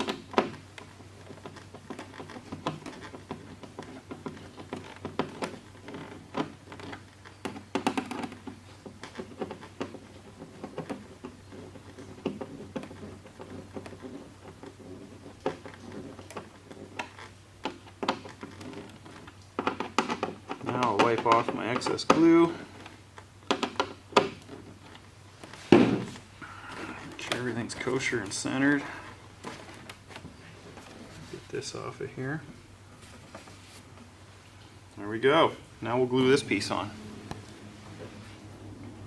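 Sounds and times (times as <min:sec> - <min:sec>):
hands handling foam parts: 0:00.0 - 0:39.0
steady low hum: 0:00.0 - 0:39.0.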